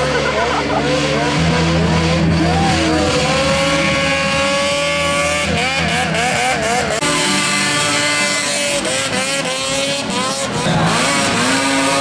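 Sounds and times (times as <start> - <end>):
off-road vehicle engines revving: 0.0 - 12.0.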